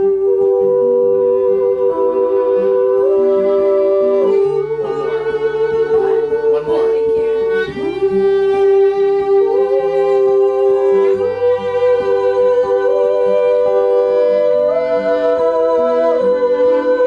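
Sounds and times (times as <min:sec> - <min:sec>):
fiddle holding long notes: 0:00.0 - 0:17.0
acoustic guitar picking: 0:01.8 - 0:17.0.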